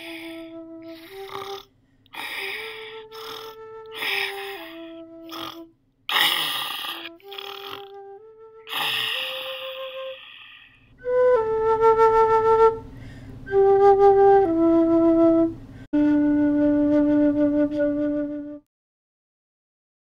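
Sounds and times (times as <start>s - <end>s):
flute playing held notes: 0.0s - 1.6s, 2.2s - 5.7s, 7.0s - 18.6s.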